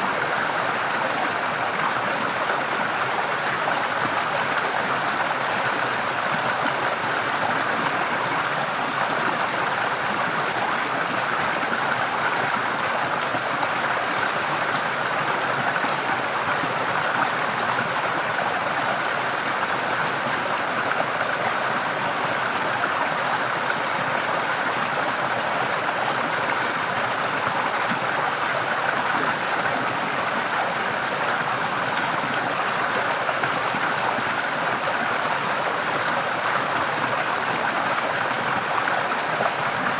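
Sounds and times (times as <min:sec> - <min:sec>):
stream flowing and splashing: 0:00.0 - 0:39.9.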